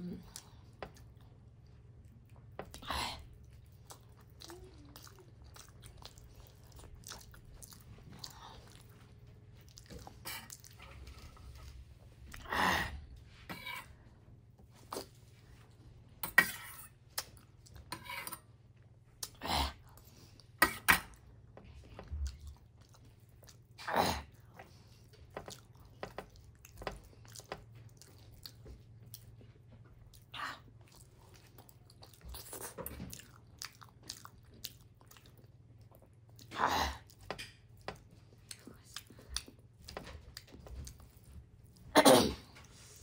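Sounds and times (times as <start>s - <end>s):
person chewing: 0.0s - 11.7s, 14.7s - 15.4s, 19.2s - 43.0s.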